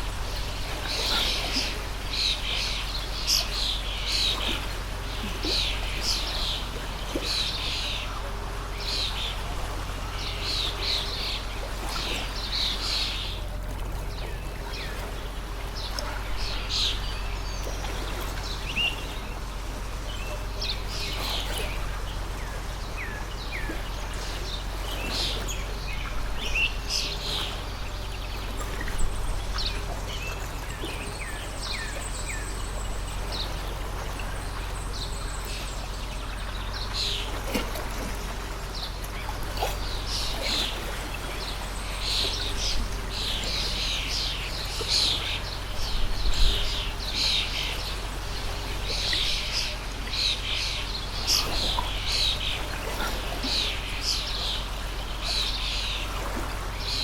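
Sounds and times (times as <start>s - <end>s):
songbirds chirping: 0.0s - 57.0s
water stream rushing: 0.0s - 57.0s.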